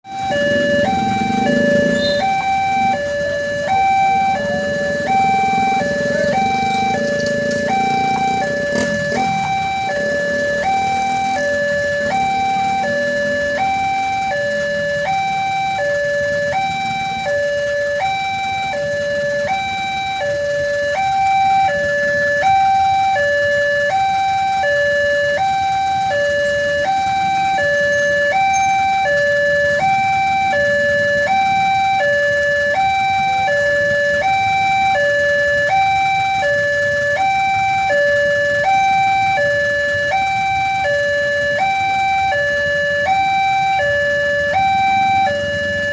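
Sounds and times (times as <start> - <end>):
level-crossing two-tone alarm: 0.0 - 45.9.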